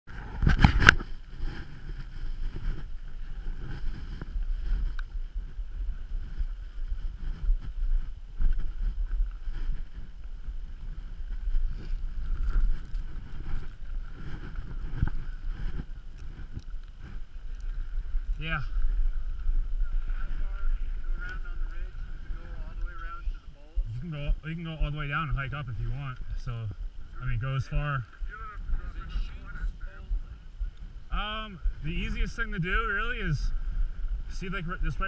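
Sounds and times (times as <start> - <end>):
wind buffeting microphone: 0.1 - 35.0.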